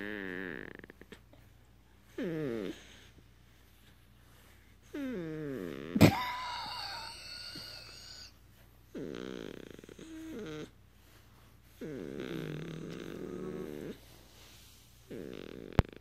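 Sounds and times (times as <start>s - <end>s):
puppy snore-like breaths: 0.0s - 6.0s, 7.6s - 16.0s.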